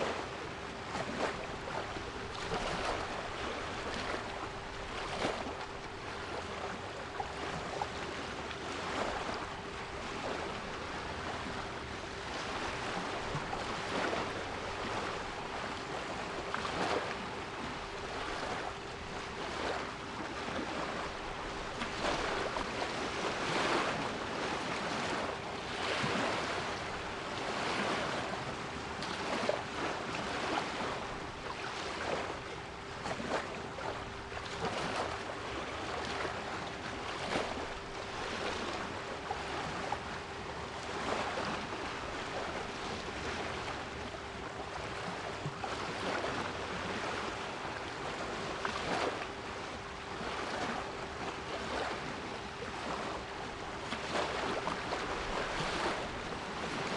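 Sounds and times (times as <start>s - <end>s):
sea waves breaking: 0.0s - 56.9s.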